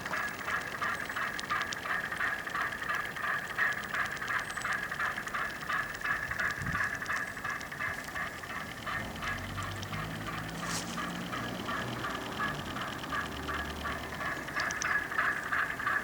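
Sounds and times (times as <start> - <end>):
faint ticking: 0.0 - 16.0
model boat motor whine: 0.0 - 16.0.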